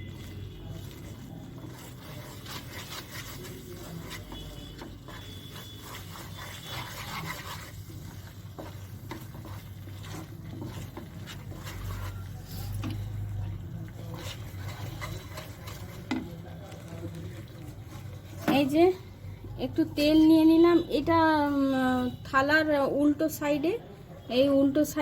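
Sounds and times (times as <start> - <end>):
spoon scraping sticky mixture in pan: 0.0 - 22.7.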